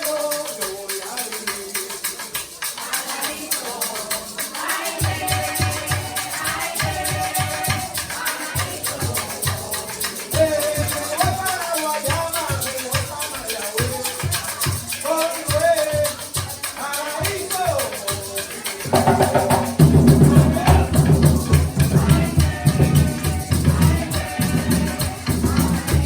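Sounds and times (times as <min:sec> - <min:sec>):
hand drum beat: 0:00.0 - 0:26.0
maraca shaking: 0:00.0 - 0:26.0
person singing: 0:00.0 - 0:26.0.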